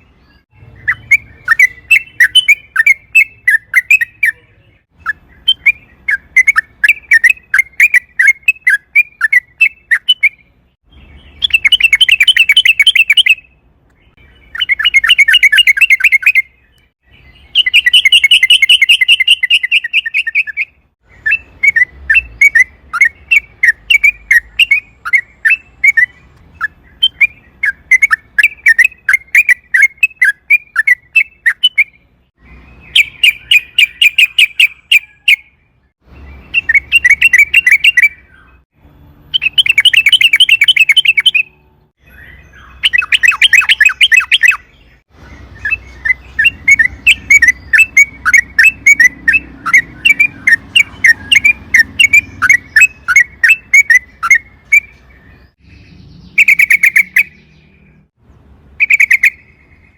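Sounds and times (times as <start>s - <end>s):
bird singing bubbly chattering notes: 0.4s - 13.5s, 14.1s - 32.0s, 36.4s - 38.4s, 39.3s - 41.5s, 42.1s - 44.7s, 45.3s - 58.2s, 58.8s - 59.9s.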